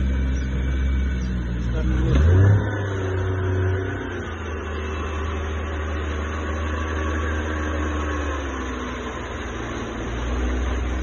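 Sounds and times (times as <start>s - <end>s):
outboard motor running hard: 0.0s - 11.0s.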